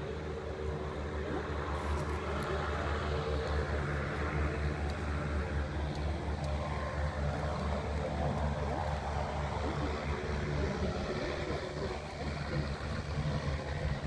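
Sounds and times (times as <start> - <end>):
distant turboprop engines droning: 0.0 - 14.0.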